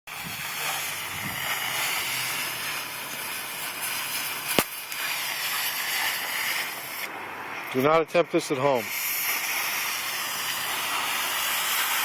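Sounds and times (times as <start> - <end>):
welding arc crackling: 0.1 - 12.0.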